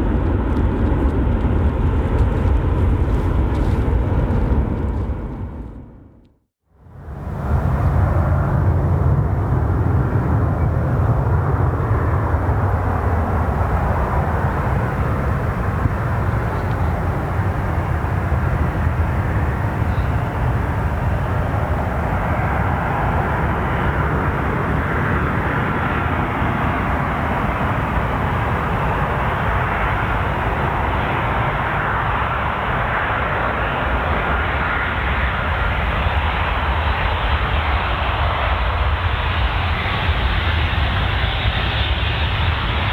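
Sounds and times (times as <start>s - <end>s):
jet engines rumbling: 0.0s - 6.4s, 7.0s - 42.9s.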